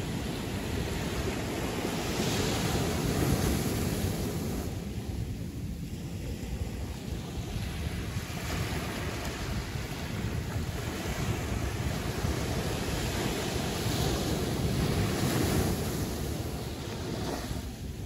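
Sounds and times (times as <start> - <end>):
waves breaking: 0.0 - 18.0.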